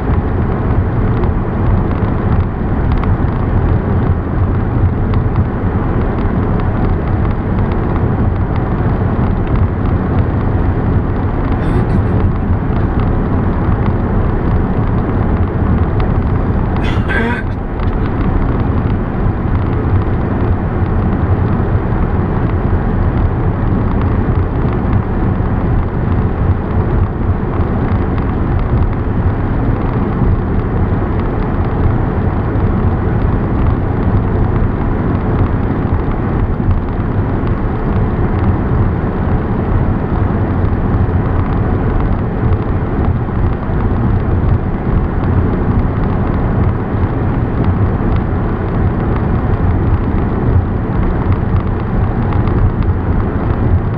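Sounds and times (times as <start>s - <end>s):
car driving at highway speed: 0.0s - 53.9s.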